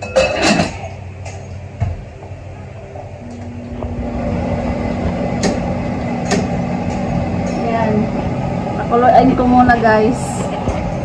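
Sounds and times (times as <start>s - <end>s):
gas burner rumble: 0.0s - 11.0s.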